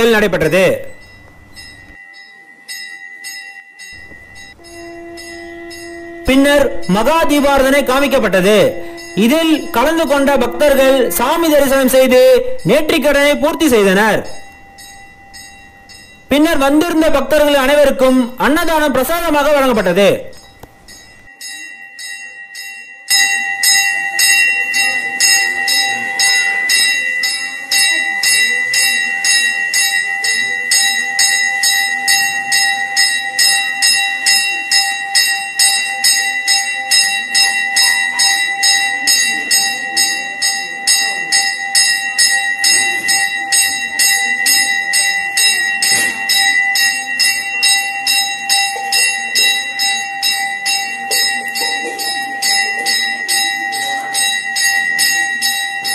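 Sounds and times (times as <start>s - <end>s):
brass bell ringing rapidly: 0.0s - 55.9s.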